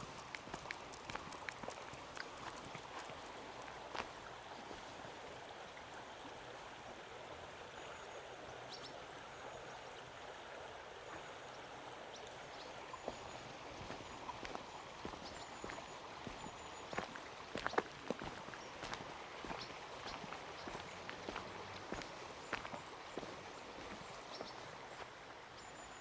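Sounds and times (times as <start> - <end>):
stream rushing: 0.0 - 25.6.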